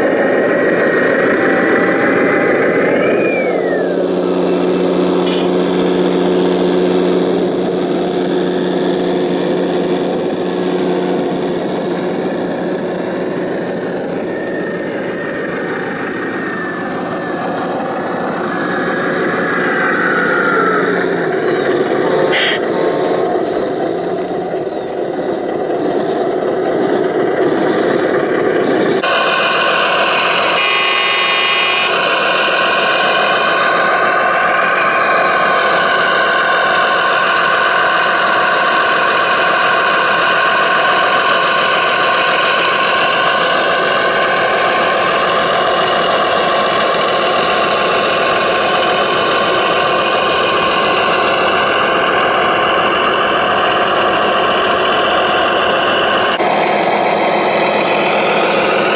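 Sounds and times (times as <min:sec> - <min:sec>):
high whine of electric motors: 0:00.0 - 0:58.9.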